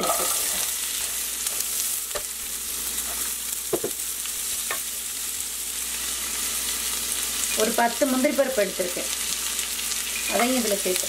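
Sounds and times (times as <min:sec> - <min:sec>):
onion sizzling in a pan: 0:00.0 - 0:11.0.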